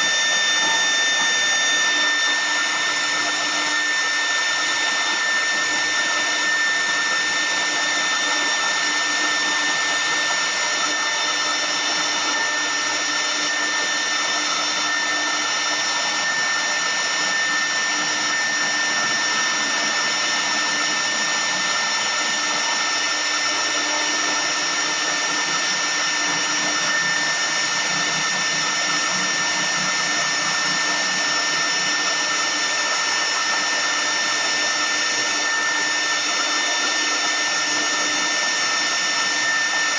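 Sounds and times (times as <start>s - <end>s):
wood router spindle whining: 0.0s - 39.9s.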